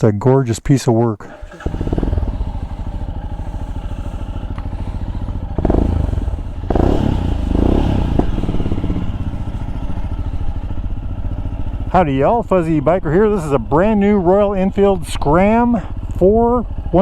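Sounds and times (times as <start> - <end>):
motorcycle engine idling: 1.3 - 17.0.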